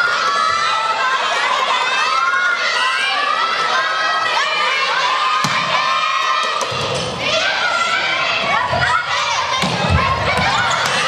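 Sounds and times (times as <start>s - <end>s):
young voices shouting and cheering: 0.0s - 11.0s.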